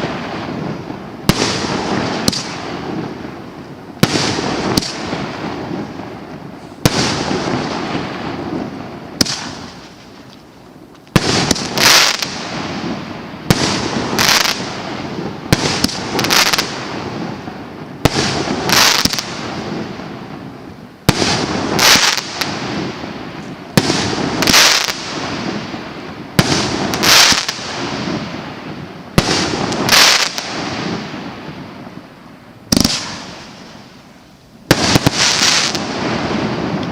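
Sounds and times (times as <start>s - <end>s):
firework aerial bursts: 0.0s - 36.9s
firework launches: 0.0s - 36.9s.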